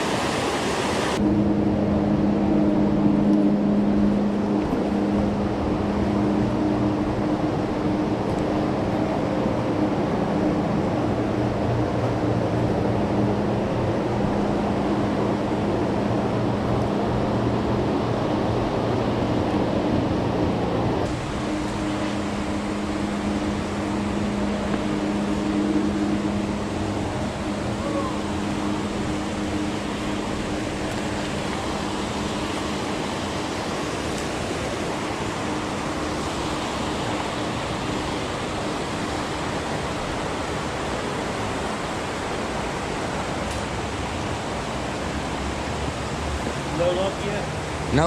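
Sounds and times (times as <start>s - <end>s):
river water flowing: 0.0s - 48.0s
low steady hum: 0.8s - 48.0s.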